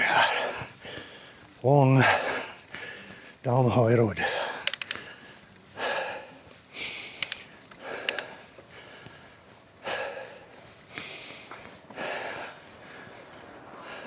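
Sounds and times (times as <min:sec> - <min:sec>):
person breathing hard: 0:00.0 - 0:03.4, 0:04.2 - 0:14.0.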